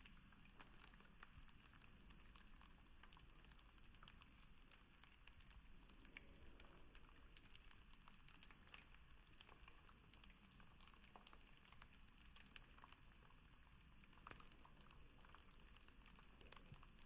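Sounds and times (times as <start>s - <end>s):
low steady hiss: 0.0s - 17.0s
volcano fizzing and crackling: 0.0s - 17.0s.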